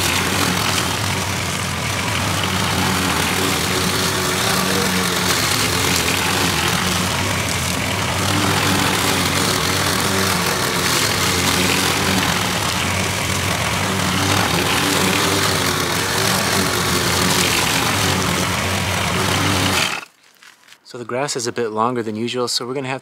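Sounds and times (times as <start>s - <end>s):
lawn mower engine running: 0.0s - 20.1s.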